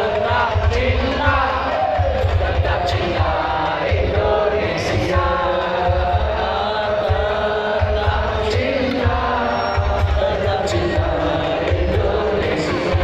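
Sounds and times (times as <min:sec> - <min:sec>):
crowd chanting devotional songs: 0:00.0 - 0:13.0
drum beats: 0:00.0 - 0:13.0.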